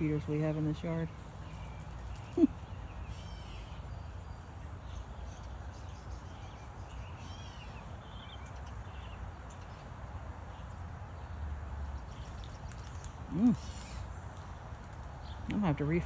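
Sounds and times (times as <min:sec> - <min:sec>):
low outdoor rumble: 0:00.0 - 0:16.0
songbirds chirping: 0:00.0 - 0:16.0.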